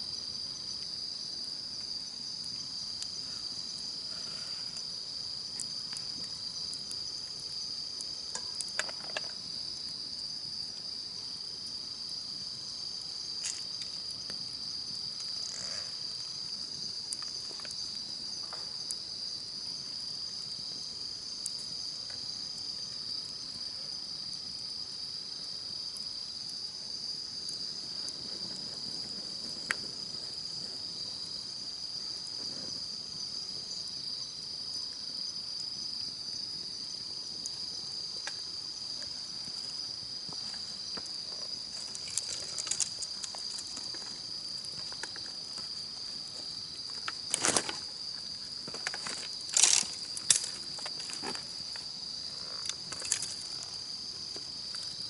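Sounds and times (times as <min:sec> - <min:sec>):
night insects chirring: 0:00.0 - 0:55.0
campfire crackling and popping: 0:00.2 - 0:23.6, 0:25.2 - 0:34.0, 0:36.6 - 0:52.0.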